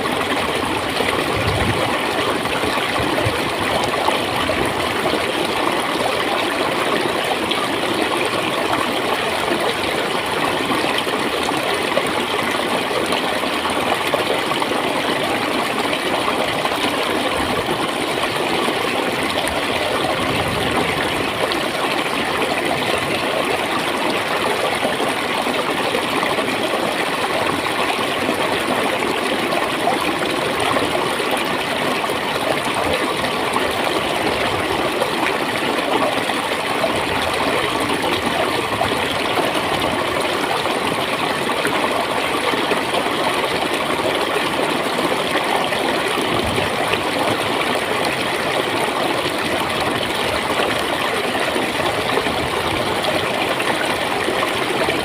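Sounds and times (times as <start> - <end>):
stream flowing and gurgling: 0.0 - 55.0.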